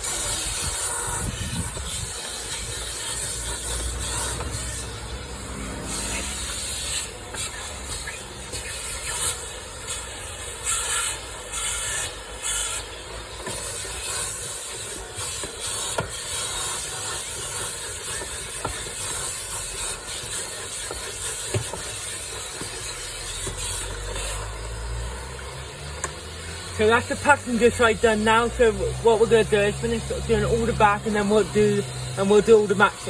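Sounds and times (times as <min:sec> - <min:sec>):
vacuum cleaner suction hiss: 0:00.0 - 0:33.0.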